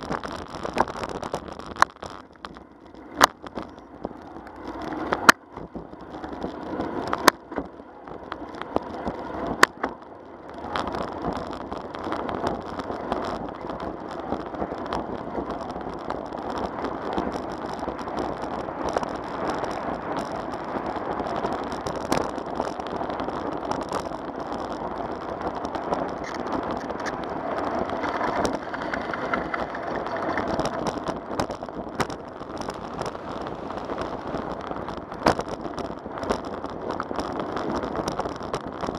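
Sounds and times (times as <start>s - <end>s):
bicycle tyres rolling on concrete: 0.0s - 38.9s.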